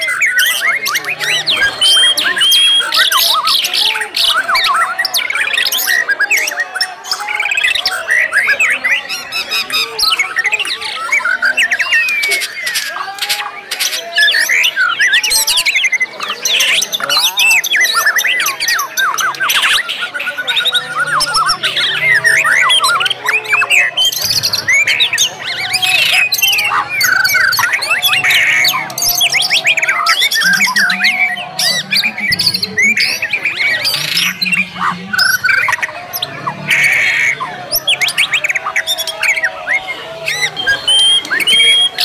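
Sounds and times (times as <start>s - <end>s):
harsh bird chattering calls: 0.0s - 42.0s
songbirds singing: 0.0s - 42.0s.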